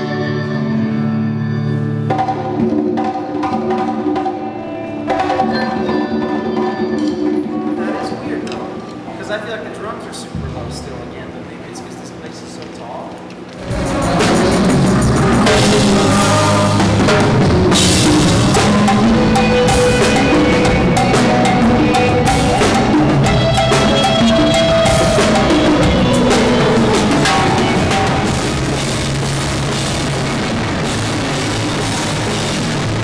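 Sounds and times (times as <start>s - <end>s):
rock band playing: 0.0s - 8.9s, 13.6s - 33.0s
drum kit: 2.0s - 8.8s, 10.2s - 12.5s, 13.6s - 33.0s.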